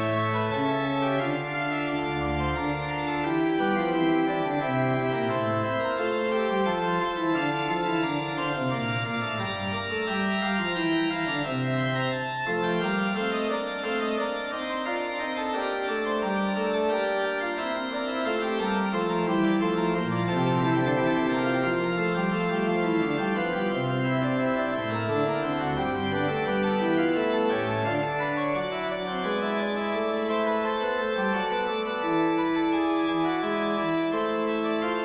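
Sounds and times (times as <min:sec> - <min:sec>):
organ playing a fugue: 0:00.0 - 0:35.0.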